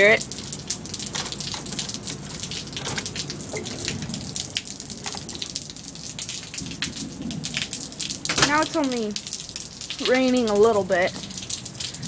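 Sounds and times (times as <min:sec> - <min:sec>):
light rain hissing: 0:00.0 - 0:12.0
raindrops tapping: 0:00.0 - 0:12.0.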